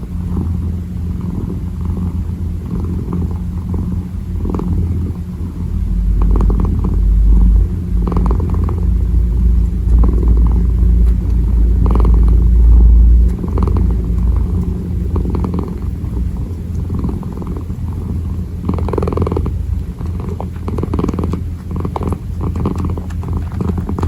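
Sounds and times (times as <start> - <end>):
kitten purring: 0.0 - 24.0.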